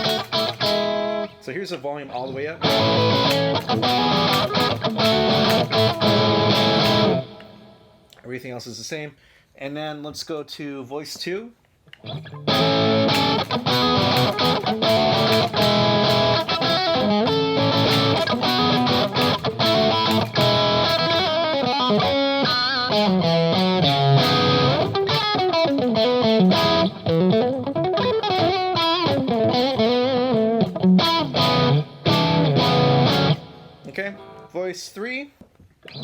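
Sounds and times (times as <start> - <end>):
overdriven electric guitar: 0.0 - 1.4, 2.3 - 8.0, 12.0 - 34.5.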